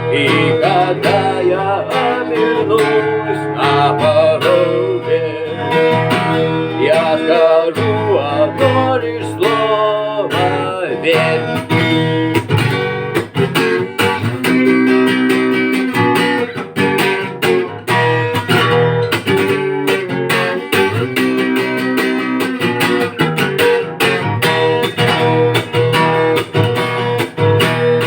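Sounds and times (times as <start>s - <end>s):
guitar strumming chords: 0.0s - 28.0s.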